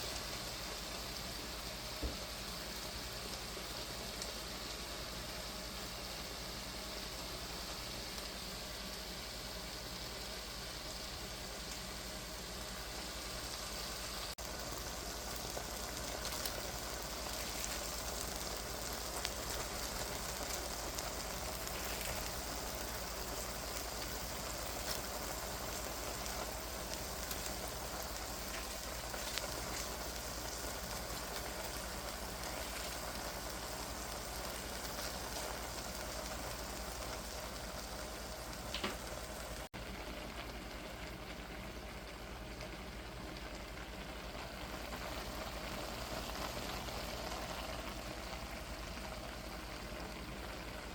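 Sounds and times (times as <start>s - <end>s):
crackles and pops: 0.0s - 9.4s, 10.5s - 50.9s
food sizzling in a hot pan: 0.0s - 50.9s.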